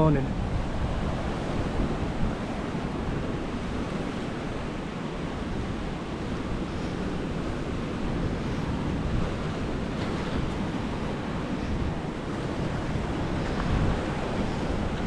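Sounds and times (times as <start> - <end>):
waves washing onto rocky shore: 0.0 - 15.0
wind buffeting microphone: 0.0 - 15.0.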